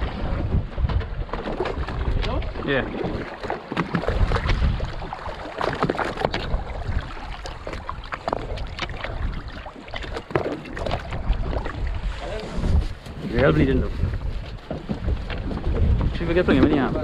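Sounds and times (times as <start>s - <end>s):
water slapping against boat hull: 0.0s - 17.0s
wind rumble on microphone: 0.0s - 17.0s.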